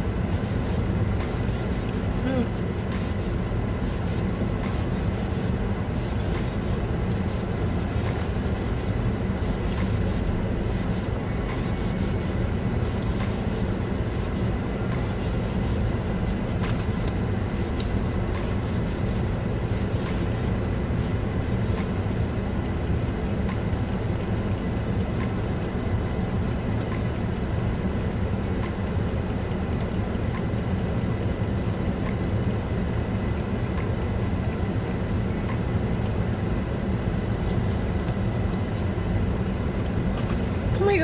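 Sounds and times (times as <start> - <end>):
car cabin rumble and hum: 0.0 - 41.0.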